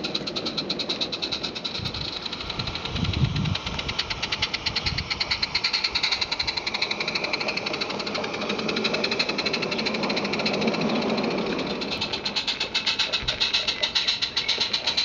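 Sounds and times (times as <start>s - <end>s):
coach wheels rumbling on track: 0.0s - 15.0s
steam locomotive chuffing: 0.0s - 15.0s.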